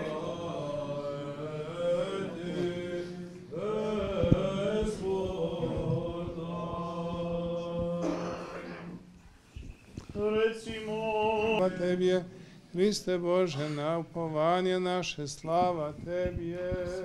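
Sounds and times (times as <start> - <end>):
liturgical chant: 0.0 - 9.0, 10.0 - 17.0.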